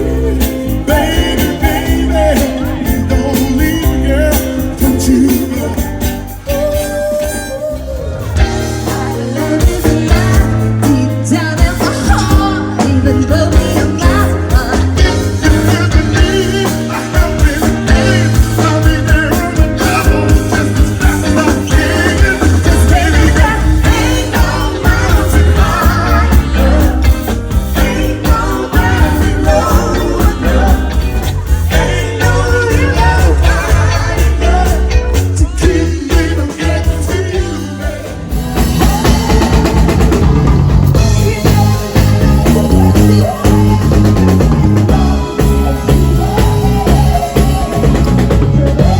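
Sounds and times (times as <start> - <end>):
live band with singer: 0.0 - 48.9.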